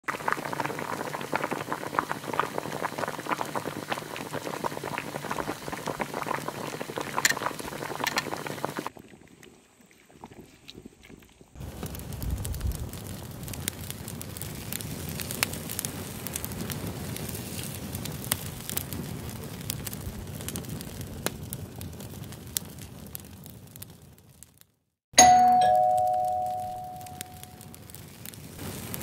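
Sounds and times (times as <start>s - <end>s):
soup boiling with popping bubbles: 0.0s - 23.9s, 25.2s - 29.0s.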